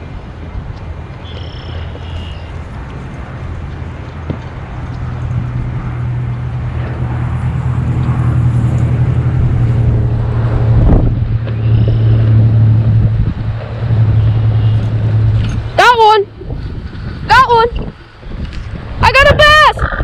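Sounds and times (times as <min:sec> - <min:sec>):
low engine-like hum: 0:00.0 - 0:19.1
rushing sweep: 0:02.5 - 0:19.1.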